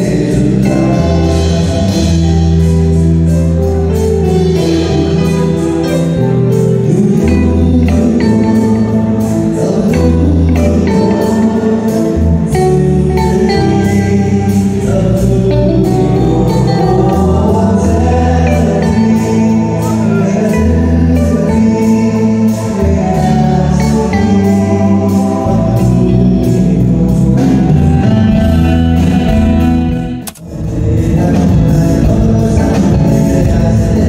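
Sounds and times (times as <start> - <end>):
bass guitar: 0.0 - 34.0
electric guitar: 0.0 - 34.0
keyboard: 0.0 - 34.0
man singing into a microphone: 0.0 - 34.0
steady drum beat: 0.0 - 34.0.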